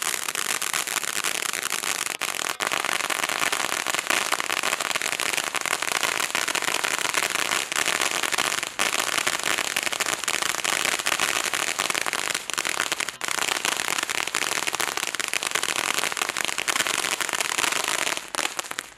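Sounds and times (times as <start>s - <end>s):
firework fountain hissing and crackling: 0.0s - 18.9s.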